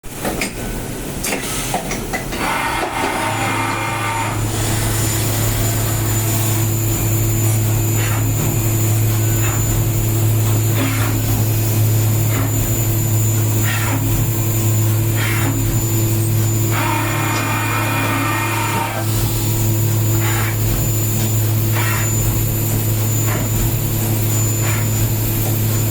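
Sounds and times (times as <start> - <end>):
milling machine hum and whine: 0.1 - 25.9.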